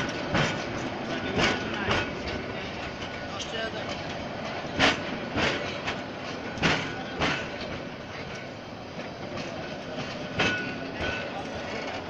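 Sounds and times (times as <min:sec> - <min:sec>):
train rumble: 0:00.0 - 0:12.0
train wheels clacking over rail joints: 0:00.0 - 0:12.0.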